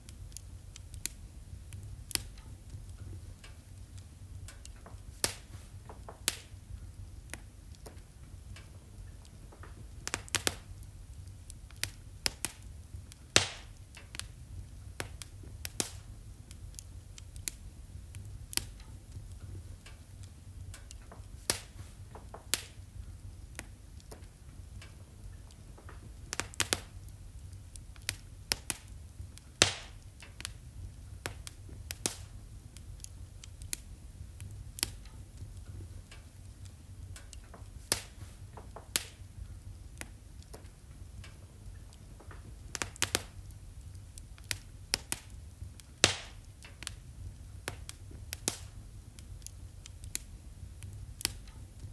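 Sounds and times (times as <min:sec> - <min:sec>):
low rumble of flames: 0:00.0 - 0:51.9
wood fire pops and snaps: 0:00.0 - 0:51.9.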